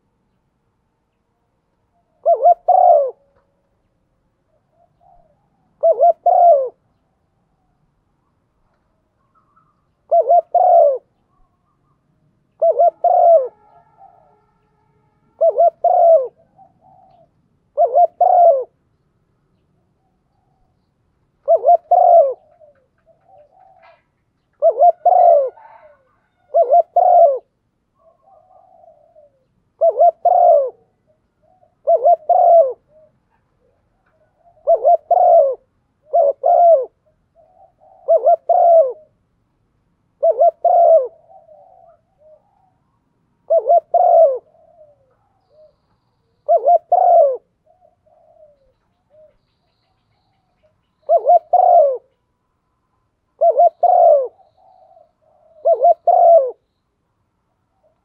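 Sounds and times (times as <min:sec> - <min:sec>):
dove cooing: 0:02.0 - 0:03.8, 0:04.4 - 0:06.9, 0:08.6 - 0:18.8, 0:21.4 - 0:39.2, 0:40.1 - 0:49.4, 0:50.2 - 0:52.2, 0:53.4 - 0:56.7.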